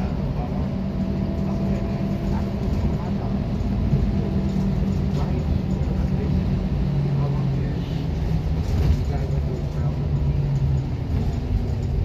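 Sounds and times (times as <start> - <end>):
bus engine drone: 0.0 - 12.0
road rumble: 0.0 - 12.0.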